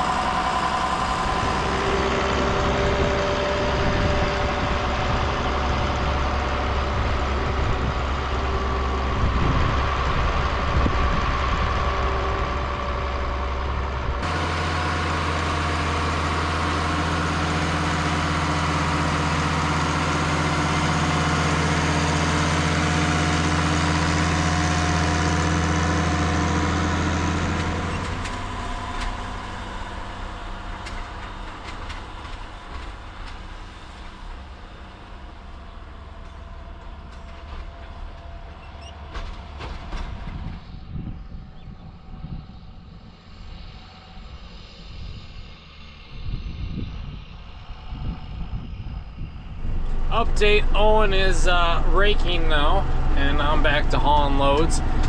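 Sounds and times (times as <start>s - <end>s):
tractor diesel engines running: 0.0s - 55.0s.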